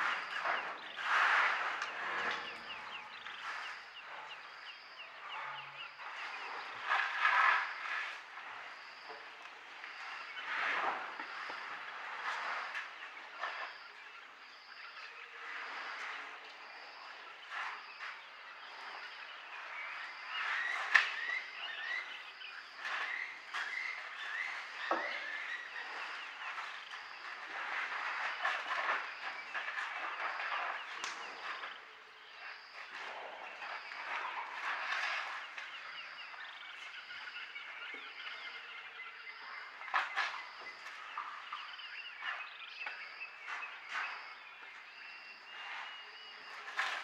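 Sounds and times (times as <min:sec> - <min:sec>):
birds chirping: 0:00.0 - 0:06.9, 0:12.5 - 0:47.0.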